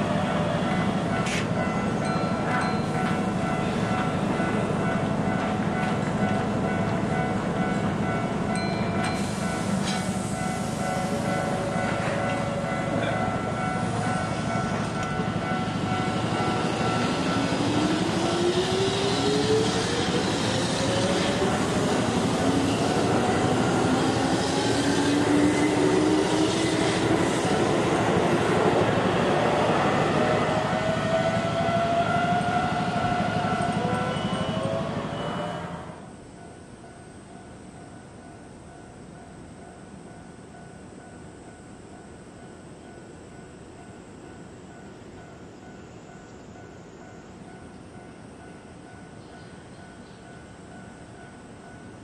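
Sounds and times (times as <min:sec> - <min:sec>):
train cars running noise: 0:00.0 - 0:52.0.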